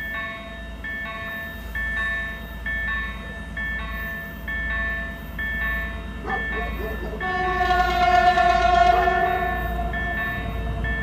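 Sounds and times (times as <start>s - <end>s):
diesel locomotive rumble: 0.0s - 11.0s
ringing bell-like tone: 0.0s - 11.0s.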